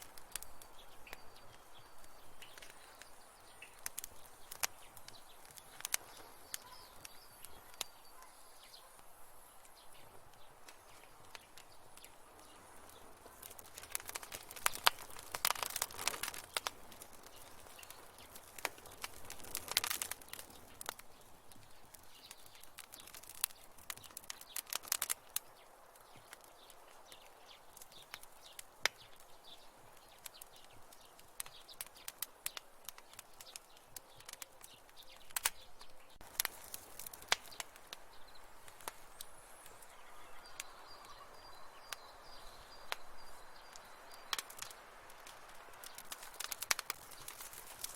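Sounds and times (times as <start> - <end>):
faint steady hiss: 0.0 - 47.9
fire crackling and popping: 0.0 - 47.9.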